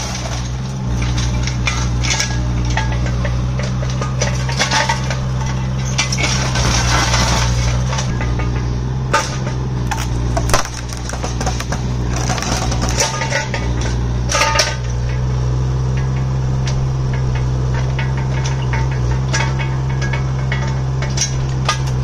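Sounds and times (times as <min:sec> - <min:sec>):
diesel engine running: 0:00.0 - 0:22.0
metallic clanks from excavator arm: 0:00.0 - 0:22.0.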